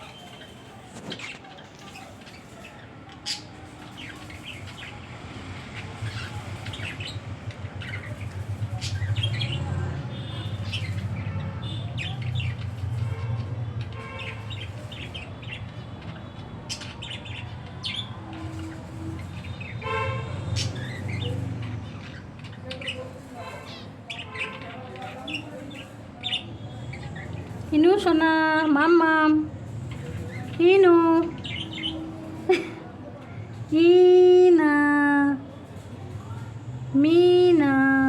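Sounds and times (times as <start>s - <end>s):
small birds chirping: 0.0s - 34.2s.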